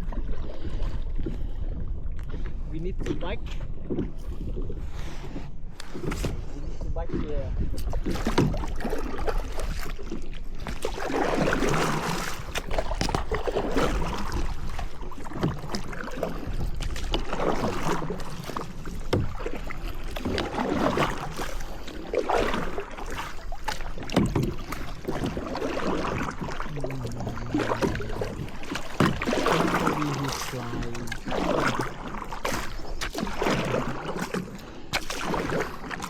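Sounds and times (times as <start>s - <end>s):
paddle strokes swishing through water: 0.0s - 36.0s.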